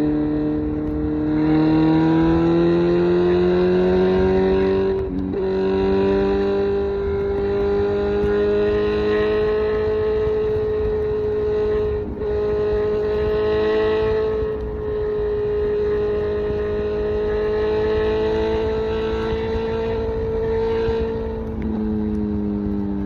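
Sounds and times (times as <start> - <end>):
low rush of wind: 0.0 - 23.0
motorcycle engine cruising: 0.0 - 23.0.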